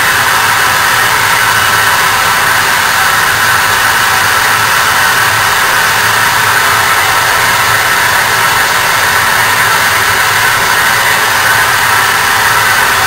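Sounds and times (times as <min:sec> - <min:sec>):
wood lathe whirring: 0:00.0 - 0:13.0.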